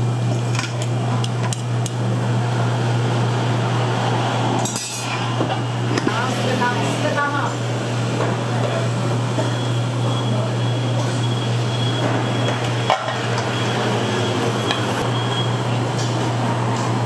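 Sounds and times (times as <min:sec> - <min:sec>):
cooking equipment hum and hiss: 0:00.0 - 0:17.0.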